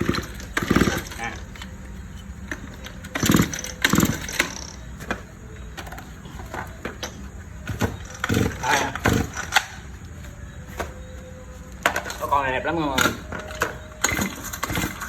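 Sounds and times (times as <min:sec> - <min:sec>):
recoil starter pulled: 0:00.0 - 0:10.0, 0:11.8 - 0:15.0
handling knocks: 0:00.0 - 0:15.0.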